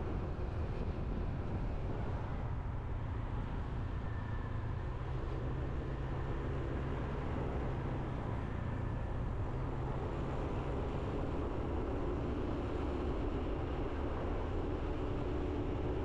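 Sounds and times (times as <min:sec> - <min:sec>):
road noise: 0:00.0 - 0:16.0
wind: 0:00.0 - 0:16.0.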